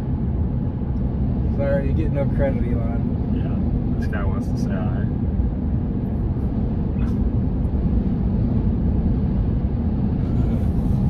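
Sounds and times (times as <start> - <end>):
road and wind noise in cabin: 0.0 - 11.0.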